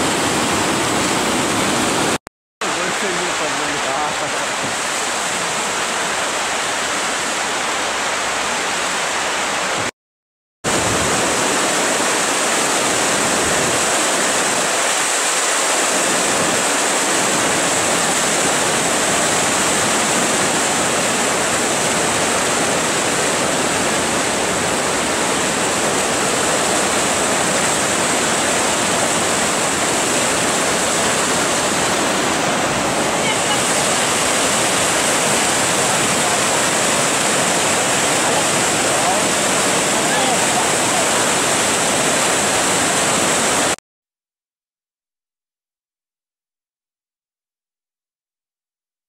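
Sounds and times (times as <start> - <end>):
whitewater rapids rushing: 0.0 - 9.9, 10.7 - 43.8.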